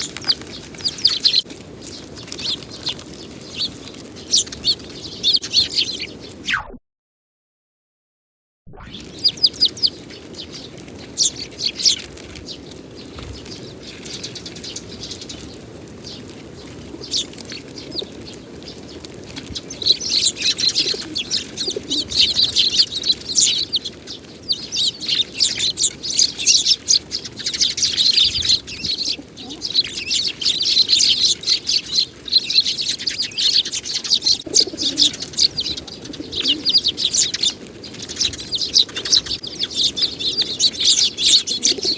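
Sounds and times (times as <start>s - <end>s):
sparrows chirping: 0.0s - 6.4s, 9.0s - 41.9s.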